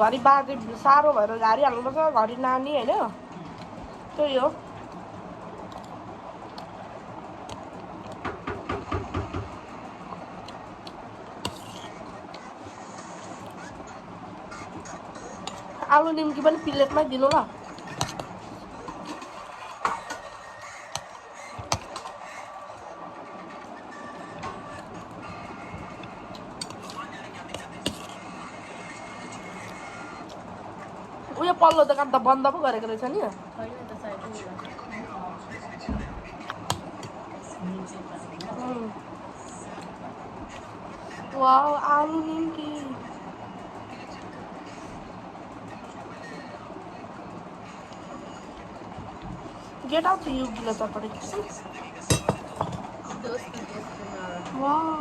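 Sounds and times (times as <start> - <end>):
faint voices talking: 0.0 - 55.0
outdoor background noise: 0.0 - 55.0.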